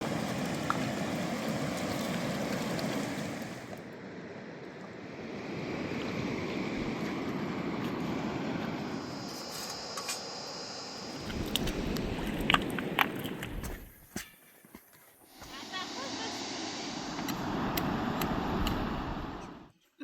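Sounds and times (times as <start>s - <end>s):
mountain river rushing: 0.0s - 13.7s, 15.3s - 19.7s.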